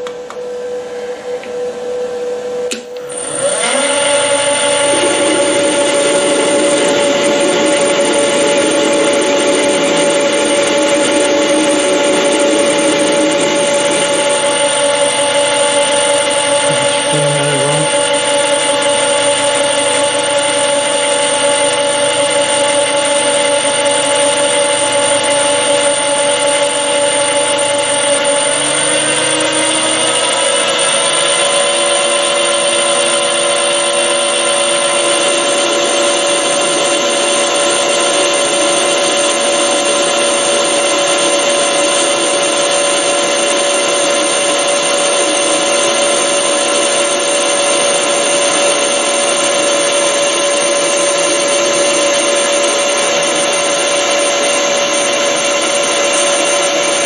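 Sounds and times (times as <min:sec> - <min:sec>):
metal lathe whining: 0:00.0 - 0:57.0.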